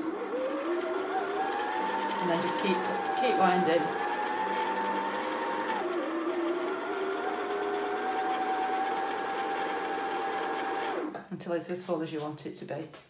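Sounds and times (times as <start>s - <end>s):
sewing machine motor whine: 0.0s - 11.1s.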